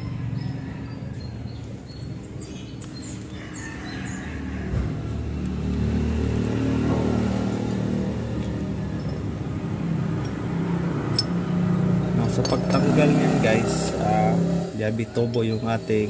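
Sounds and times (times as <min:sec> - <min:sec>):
vehicle engine humming: 0:01.4 - 0:16.0.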